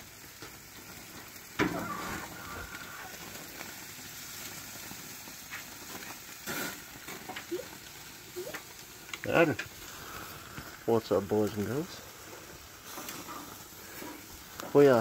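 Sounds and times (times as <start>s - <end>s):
food sizzling on grill: 0.0s - 15.0s.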